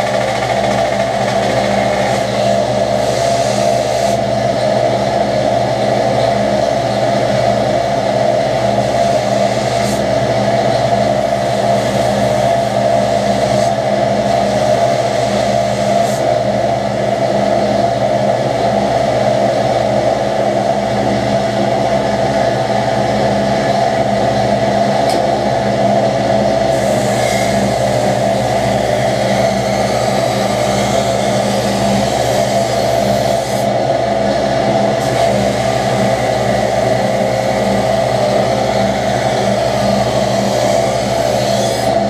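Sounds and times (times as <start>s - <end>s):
shop machine droning: 0.0s - 42.0s.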